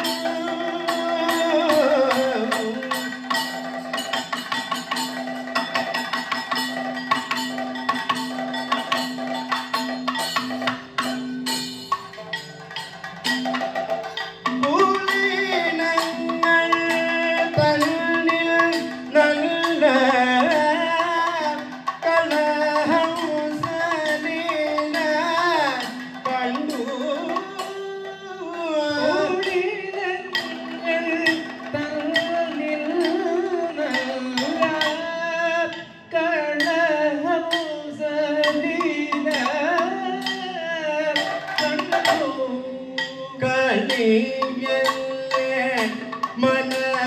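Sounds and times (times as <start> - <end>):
ornamented singing: 0.0 - 9.0, 13.5 - 47.0
drumming: 0.0 - 47.0.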